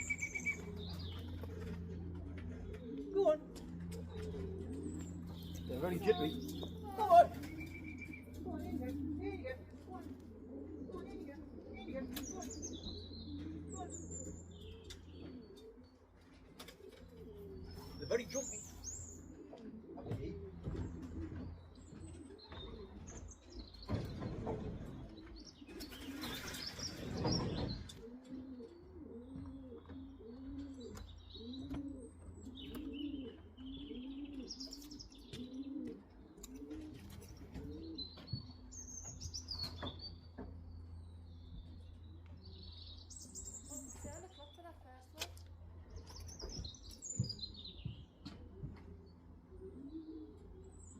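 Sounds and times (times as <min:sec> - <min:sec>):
pigeons cooing: 0:00.0 - 0:44.8, 0:45.5 - 0:50.9.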